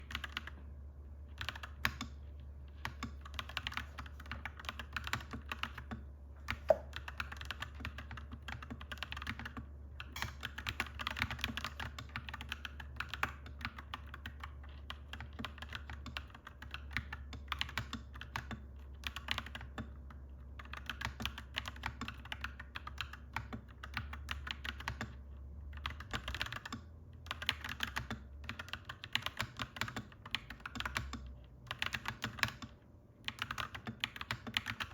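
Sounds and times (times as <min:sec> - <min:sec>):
mechanical keyboard typing: 0:00.0 - 0:00.6, 0:01.3 - 0:34.9.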